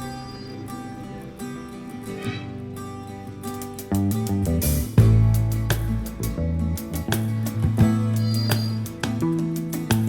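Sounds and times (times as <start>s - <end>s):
plucked guitar music with beat: 0.0s - 10.0s.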